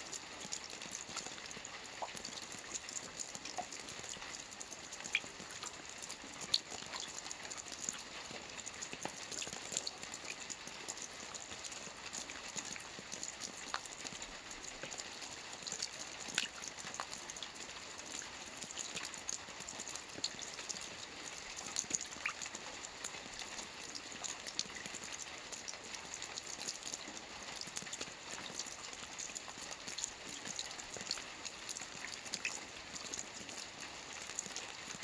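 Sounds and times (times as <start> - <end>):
soft rain on a roof: 0.0 - 35.0.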